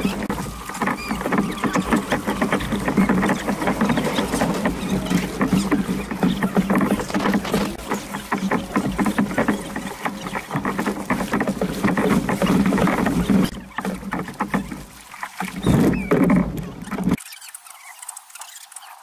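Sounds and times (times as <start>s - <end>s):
kayak paddles splashing: 0.0s - 19.0s
water washing along hull: 0.0s - 19.0s.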